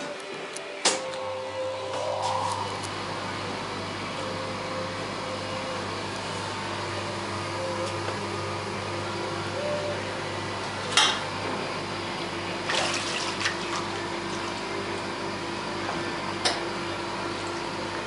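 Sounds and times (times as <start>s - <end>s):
washing unit humming: 0.0s - 18.0s.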